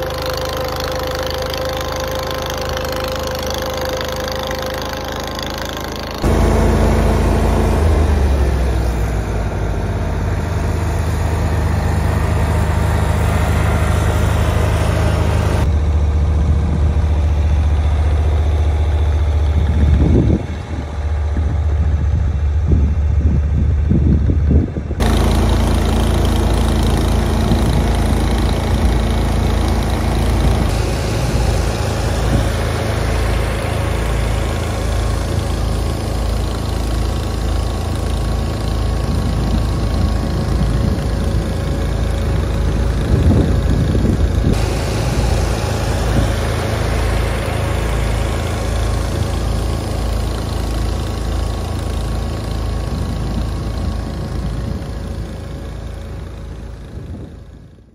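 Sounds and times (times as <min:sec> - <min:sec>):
garden tractor engines running: 0:00.0 - 0:57.9.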